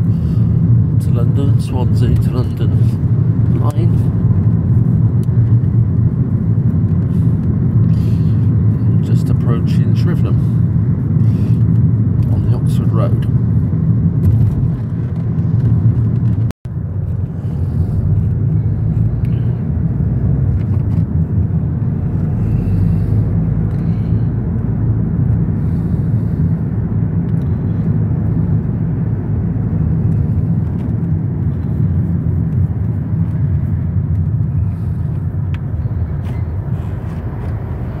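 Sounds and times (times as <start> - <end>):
car interior road and engine noise: 0.0 - 38.0.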